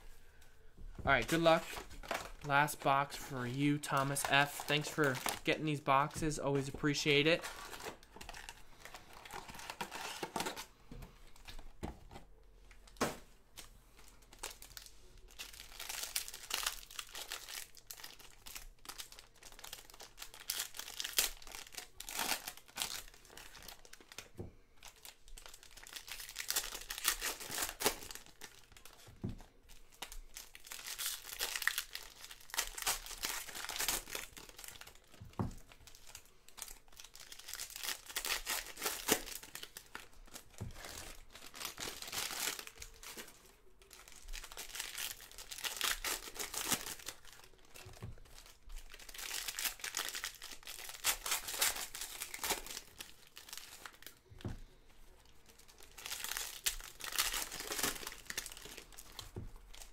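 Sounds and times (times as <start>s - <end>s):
foil wrappers crinkling and tearing: 1.1s - 10.7s, 13.6s - 59.9s.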